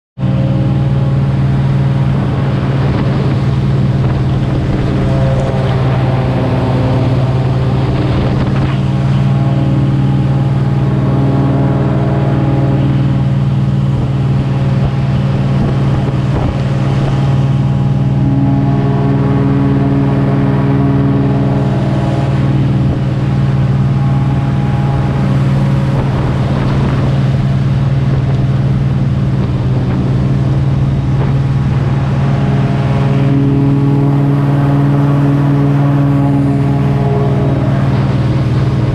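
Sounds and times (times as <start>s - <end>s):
boat engine droning: 0.2s - 38.9s.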